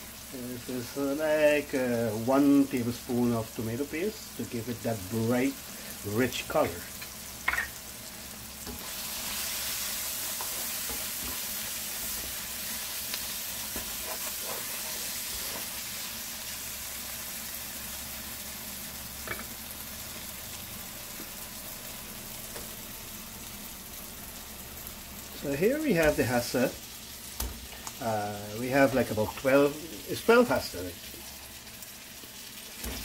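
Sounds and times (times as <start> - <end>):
curry paste sizzling in oil: 0.0 - 33.0.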